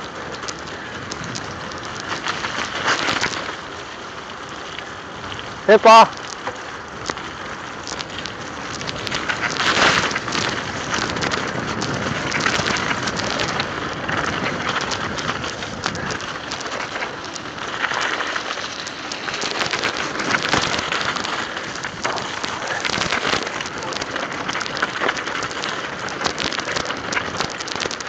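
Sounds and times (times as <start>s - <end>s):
bike tyres rolling over ice: 0.0s - 28.0s.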